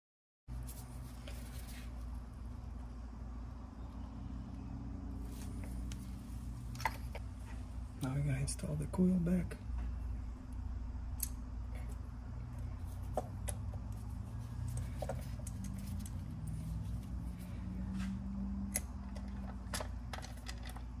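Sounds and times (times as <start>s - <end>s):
steady low hum: 0.5s - 21.0s.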